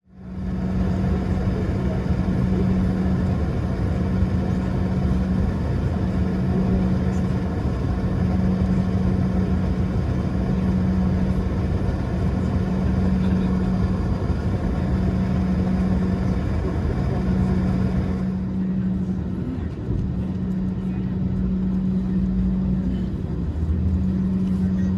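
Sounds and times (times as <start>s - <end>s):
airliner cabin rumble and hum: 0.0s - 24.9s.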